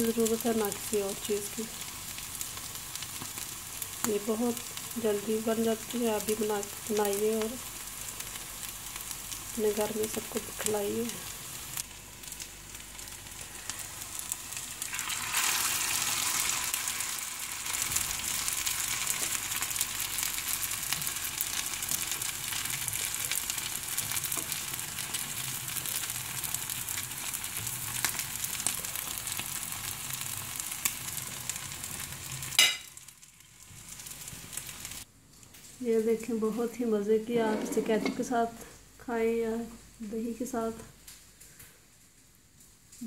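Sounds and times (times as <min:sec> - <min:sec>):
food sizzling in hot oil: 0:00.0 - 0:35.1.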